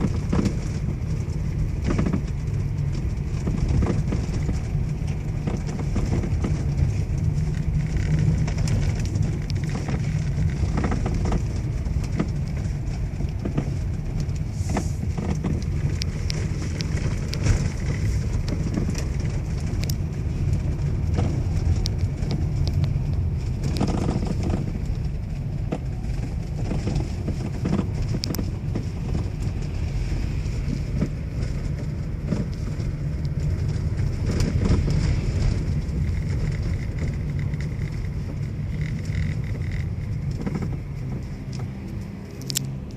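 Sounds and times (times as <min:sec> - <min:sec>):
steering knocking: 0:00.0 - 0:42.6
vehicle low rumble: 0:00.0 - 0:42.9.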